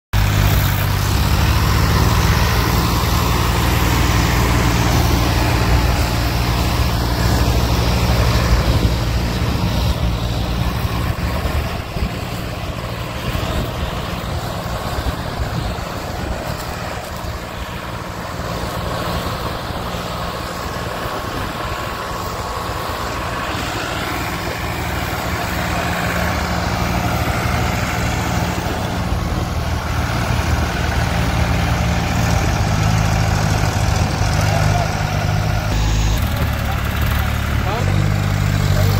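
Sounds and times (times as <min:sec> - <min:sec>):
tractor diesel engines under heavy load: 0:00.1 - 0:38.9.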